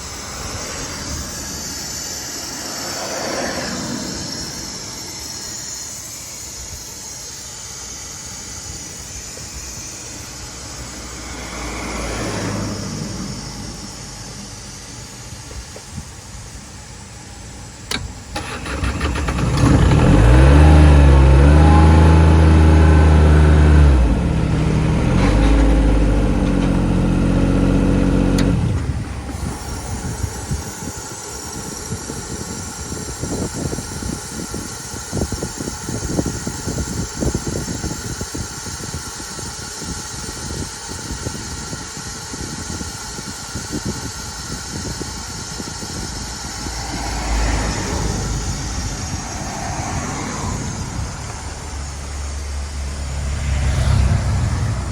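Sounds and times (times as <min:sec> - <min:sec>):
diesel air compressor running: 0:00.0 - 0:54.9.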